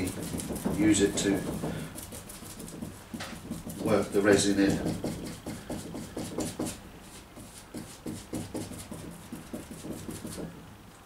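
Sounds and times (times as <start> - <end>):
bristle brush scrubbing: 0.0 - 10.5.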